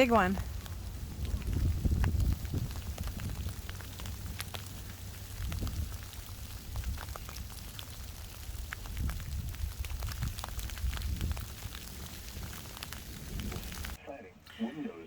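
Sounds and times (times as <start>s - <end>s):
raindrops ticking on a surface: 0.0s - 14.0s.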